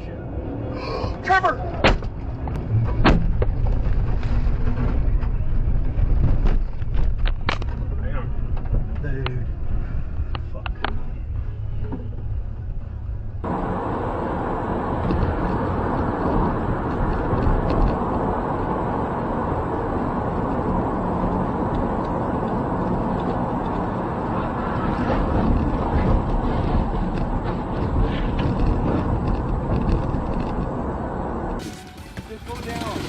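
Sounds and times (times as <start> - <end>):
vehicle engine road and wind: 0.0 - 33.0.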